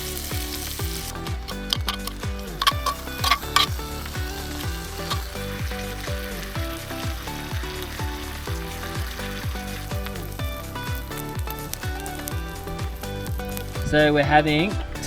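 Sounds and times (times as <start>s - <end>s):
bacon sizzling in a pan: 0.0s - 12.4s
music with a steady beat: 0.0s - 15.0s.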